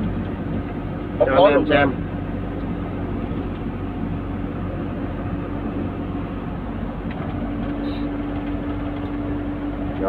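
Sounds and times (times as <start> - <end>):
truck engine hum and road noise: 0.0 - 10.0.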